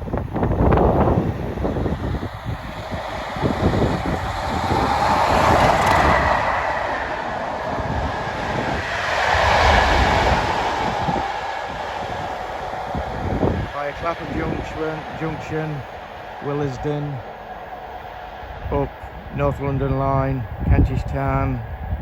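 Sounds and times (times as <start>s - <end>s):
train passing at speed: 0.0s - 22.0s
wind buffeting microphone: 0.0s - 22.0s.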